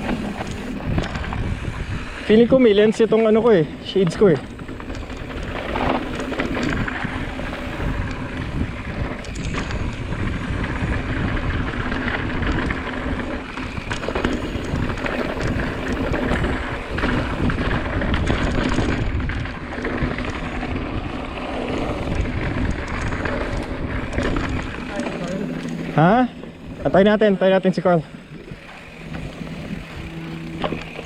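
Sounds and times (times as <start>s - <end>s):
bike tyres rolling on dirt: 0.0s - 31.0s
wind buffeting microphone: 0.0s - 31.0s.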